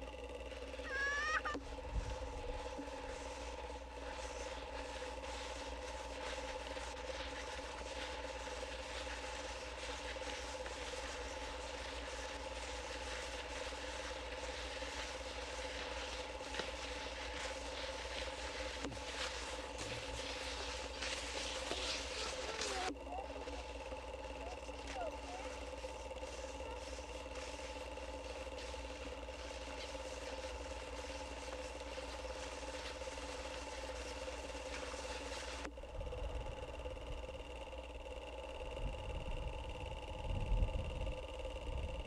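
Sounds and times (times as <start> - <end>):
electrical hum: 0.0 - 42.0
steady hiss: 1.7 - 35.7.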